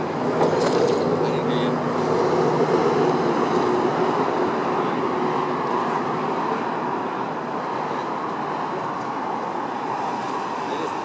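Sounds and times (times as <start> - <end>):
engine and machinery noise: 0.0 - 11.0.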